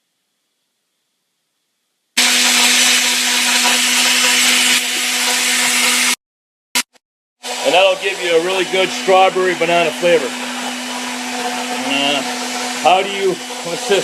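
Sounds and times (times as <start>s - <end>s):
blender whirring: 2.2s - 6.2s, 6.8s - 14.0s.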